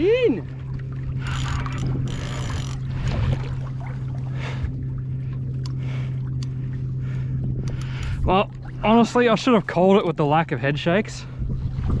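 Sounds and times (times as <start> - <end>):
electric boat motor humming: 0.0 - 11.2
water splashing and sloshing: 0.0 - 12.0.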